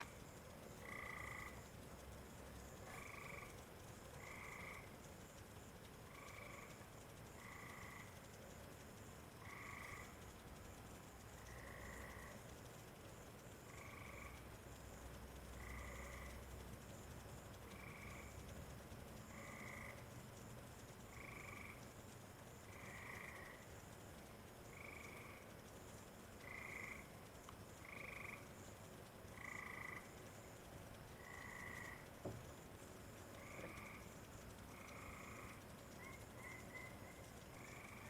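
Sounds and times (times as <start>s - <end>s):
frogs calling: 0.0s - 38.0s.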